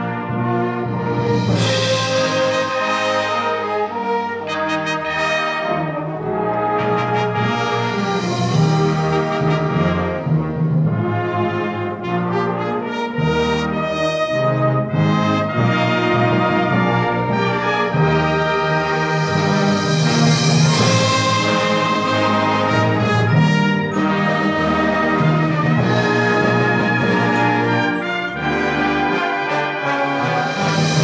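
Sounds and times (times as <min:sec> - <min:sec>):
wind band playing brass music: 0:00.0 - 0:31.0.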